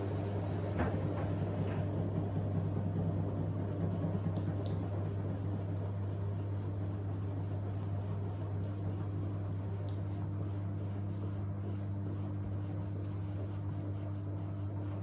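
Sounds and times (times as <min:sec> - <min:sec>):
washing machine running: 0:00.0 - 0:15.0.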